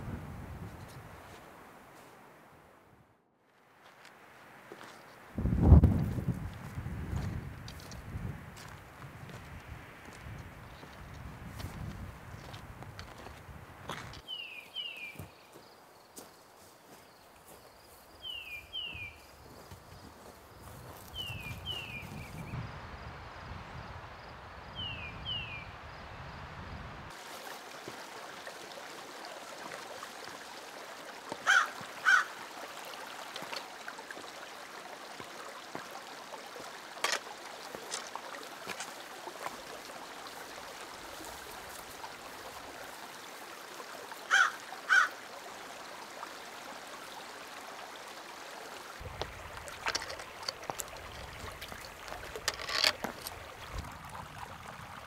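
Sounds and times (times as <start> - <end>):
creek running over rocks: 0.0 - 26.4, 27.1 - 55.0.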